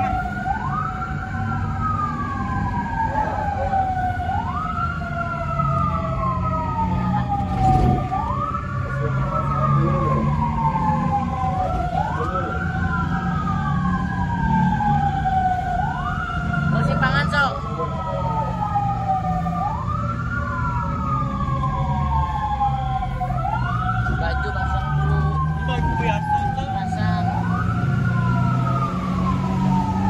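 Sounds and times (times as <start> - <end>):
sirens wailing: 0.0 - 30.0
vehicle engine rumbling: 0.0 - 30.0.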